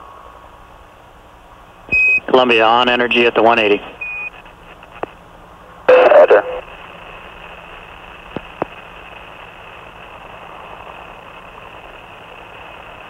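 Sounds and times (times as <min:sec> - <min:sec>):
radio static hiss: 0:01.9 - 0:13.0.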